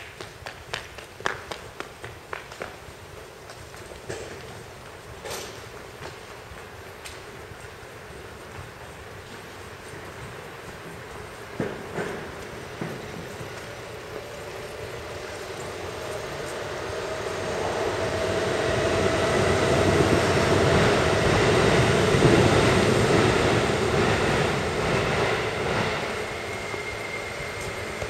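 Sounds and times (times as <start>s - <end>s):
electric train rumble overhead: 0.0s - 28.0s
steady train whine: 0.0s - 28.0s.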